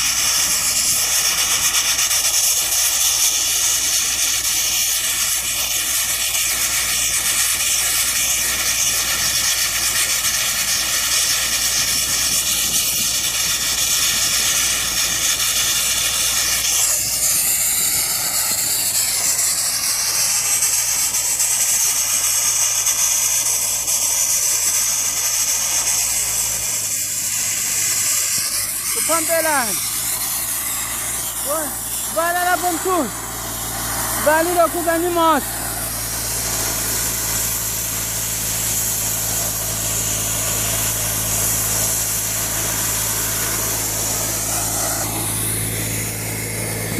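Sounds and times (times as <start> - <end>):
sandblasting nozzle hissing: 0.0 - 46.9.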